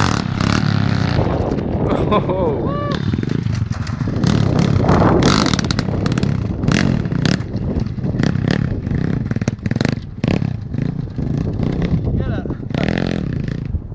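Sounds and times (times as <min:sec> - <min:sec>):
pit bike engine running: 0:00.0 - 0:13.9.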